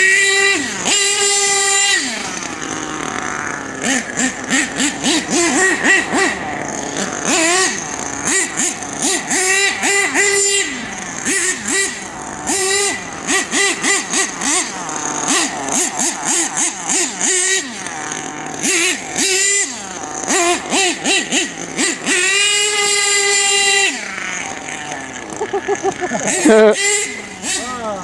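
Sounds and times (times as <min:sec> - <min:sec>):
rc truck engine revving: 0:00.0 - 0:28.0.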